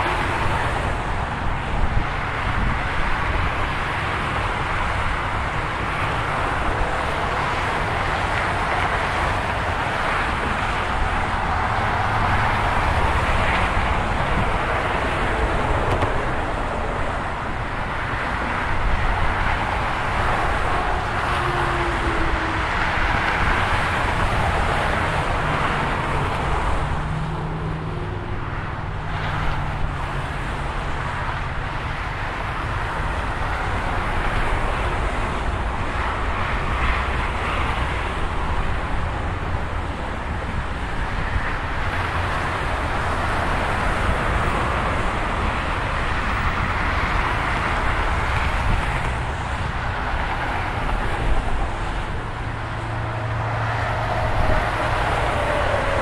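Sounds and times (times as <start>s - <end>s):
freeway traffic roar: 0.0s - 56.0s.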